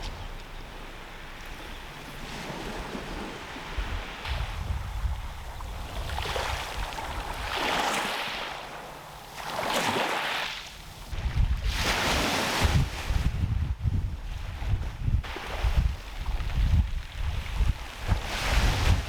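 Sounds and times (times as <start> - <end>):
wind buffeting microphone: 0.0 - 8.1, 11.0 - 19.0
small waves washing onto shore: 0.0 - 13.4, 14.2 - 19.0.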